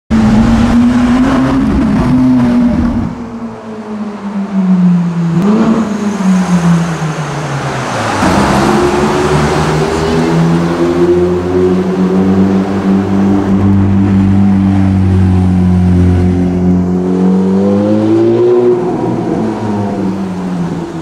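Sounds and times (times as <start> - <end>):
sports car engines revving: 0.1 - 21.0.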